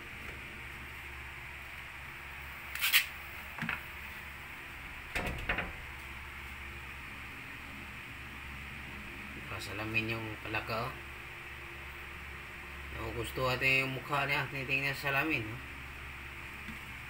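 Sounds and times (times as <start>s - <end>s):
low hiss and hum: 0.0s - 17.0s.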